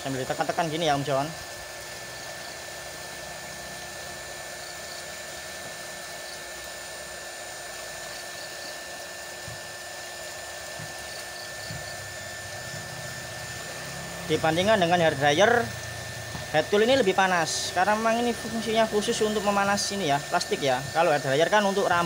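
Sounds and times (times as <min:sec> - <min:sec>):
faint steady whine: 0:00.0 - 0:22.0
heat gun blowing air: 0:00.0 - 0:22.0.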